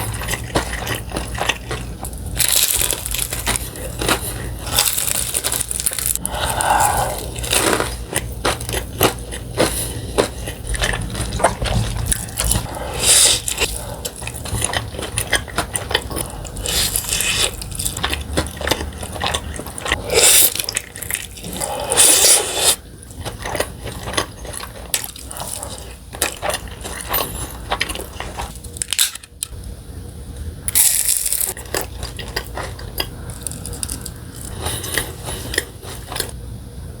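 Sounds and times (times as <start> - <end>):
chewing crispy chicken: 0.0 - 29.6, 30.7 - 36.4.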